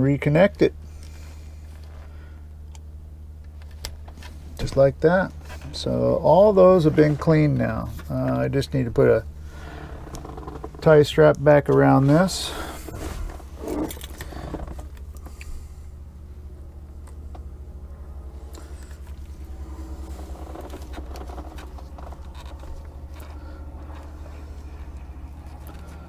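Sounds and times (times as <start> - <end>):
steady low hum: 0.0 - 26.0
clicks and rustles of handling wires: 0.4 - 9.0, 10.0 - 15.6, 18.4 - 26.0.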